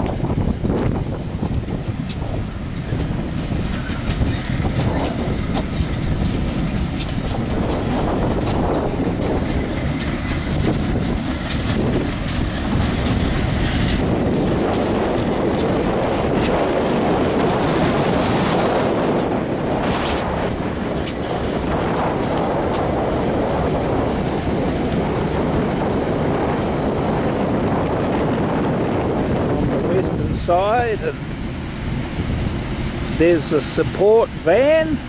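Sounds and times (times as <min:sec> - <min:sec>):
train rumbling past: 0:00.0 - 0:35.0
wheels clicking over rail joints: 0:00.0 - 0:35.0.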